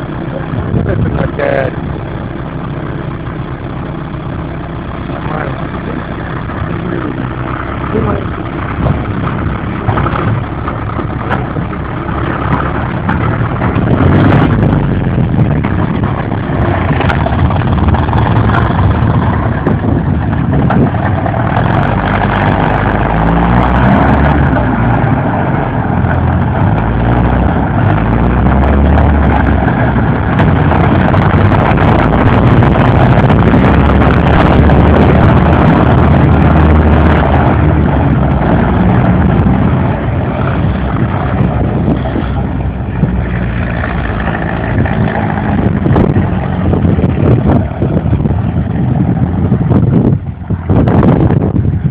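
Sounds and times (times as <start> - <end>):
tracked vehicle engine under load: 0.0 - 51.9.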